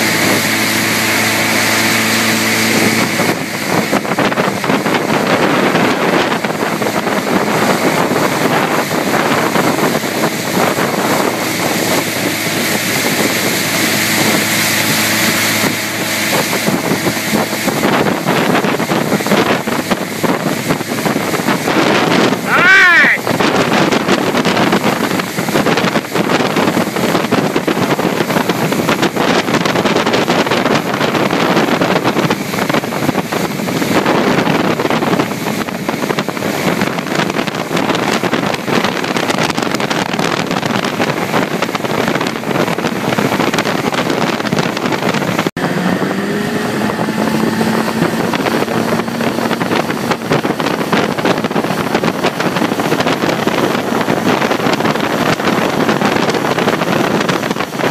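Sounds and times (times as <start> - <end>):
boat motor running: 0.0 - 57.9
water rushing: 0.0 - 57.9
wind buffeting microphone: 0.0 - 57.9.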